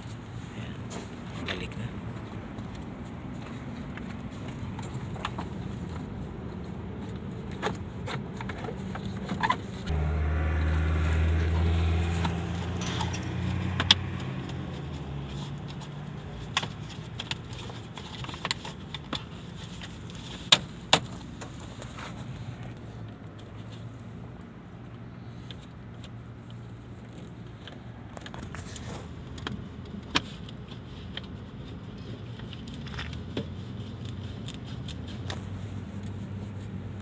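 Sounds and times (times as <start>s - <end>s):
vehicle engine low hum: 0.0s - 37.0s.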